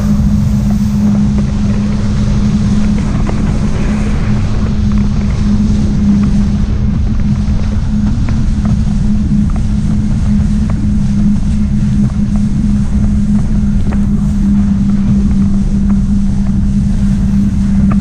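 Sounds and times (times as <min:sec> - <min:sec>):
jet ski engine drone: 0:00.0 - 0:18.0
wind on microphone: 0:00.0 - 0:18.0.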